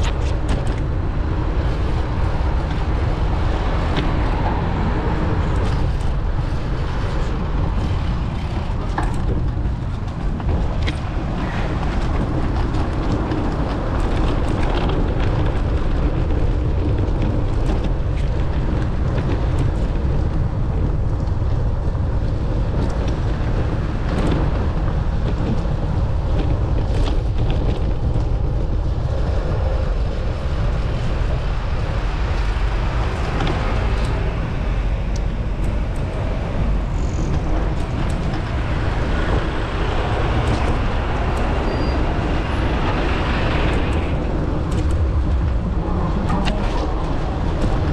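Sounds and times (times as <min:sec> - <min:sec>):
cars and bus passing: 0:00.0 - 0:47.9
wind rumble on microphone: 0:00.0 - 0:47.9.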